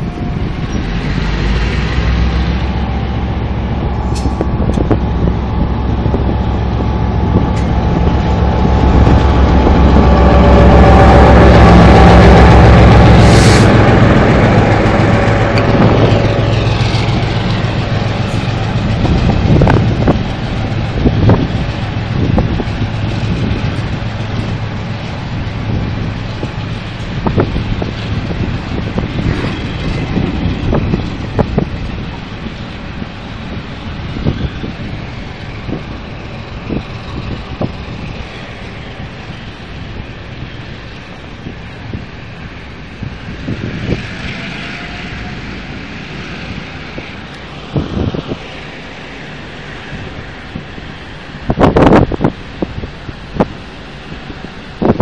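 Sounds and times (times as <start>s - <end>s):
falling whine: 0.0s - 55.0s
freight train rumbling past: 0.0s - 55.0s.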